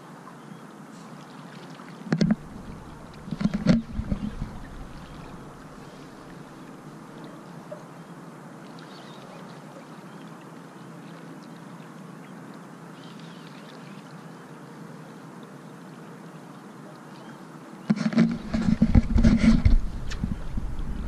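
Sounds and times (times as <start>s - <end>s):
faint steady hum: 0.0s - 21.0s
river water around boat: 0.0s - 21.0s
wind: 0.0s - 21.0s.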